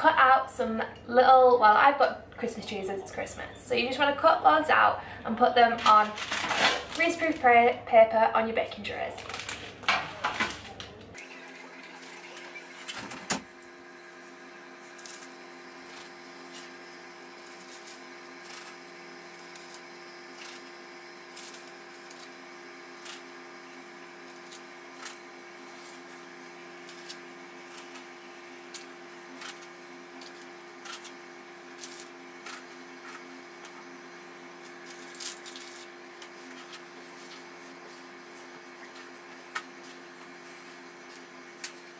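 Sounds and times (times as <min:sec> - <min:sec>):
steady hum of fixed tones: 0:00.0 - 0:41.9.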